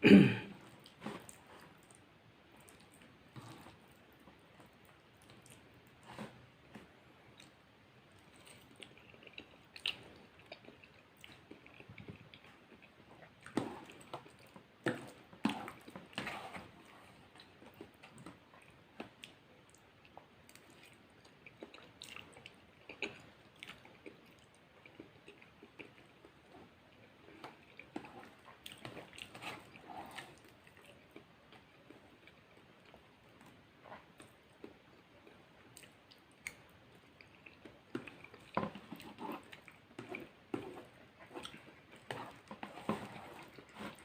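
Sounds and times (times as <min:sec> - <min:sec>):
person chewing and eating: 0:00.6 - 0:44.0.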